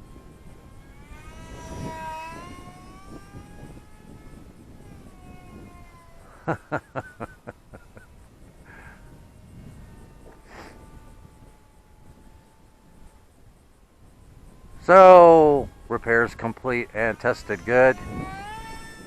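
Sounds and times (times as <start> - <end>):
electric motor high whine: 0.0 - 19.0.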